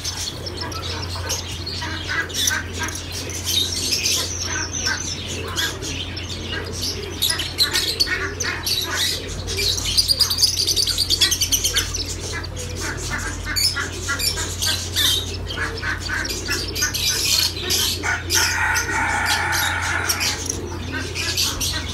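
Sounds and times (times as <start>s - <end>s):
birds chirping and squawking: 0.0s - 21.9s.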